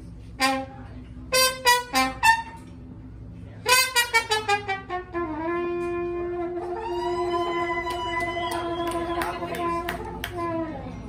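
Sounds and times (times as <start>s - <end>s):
saxophone playing jazz: 0.4s - 2.6s, 3.6s - 11.0s.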